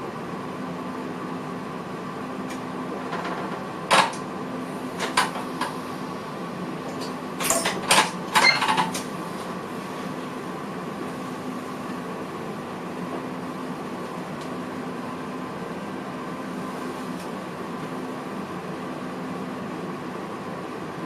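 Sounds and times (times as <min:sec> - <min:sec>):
electric train cab hum: 0:00.0 - 0:20.8.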